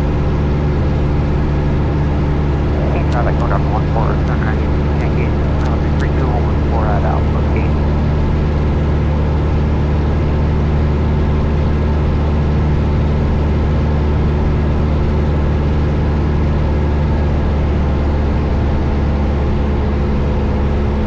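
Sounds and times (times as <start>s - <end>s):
airplane engine drone in cabin: 0.0s - 21.0s.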